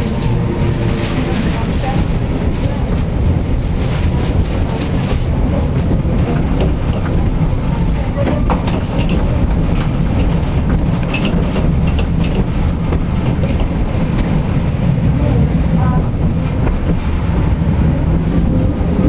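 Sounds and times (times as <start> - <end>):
tram rumbling along track: 0.0 - 19.0.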